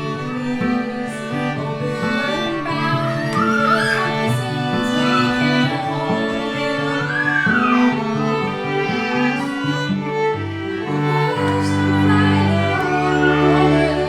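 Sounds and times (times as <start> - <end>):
sustained cello notes: 0.0 - 14.0
violin melody: 0.0 - 14.0.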